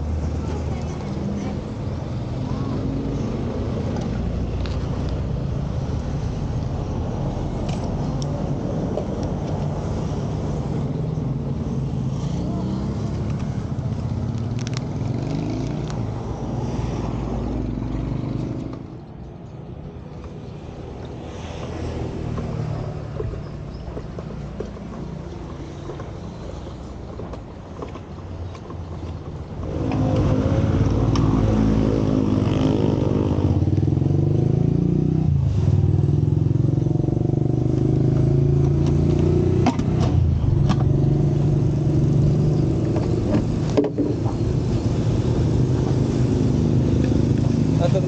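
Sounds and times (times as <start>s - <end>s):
road traffic: 0.0s - 48.0s.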